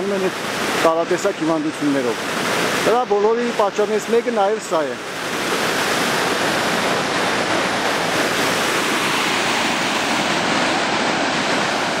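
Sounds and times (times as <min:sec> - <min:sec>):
water rushing down rocky stream: 0:00.0 - 0:12.0.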